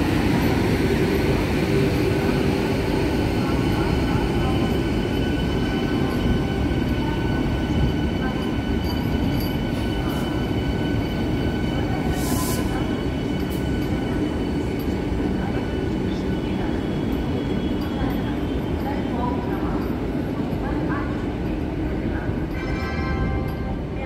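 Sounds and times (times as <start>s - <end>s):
electric train rumbling on rails: 0.0s - 24.0s.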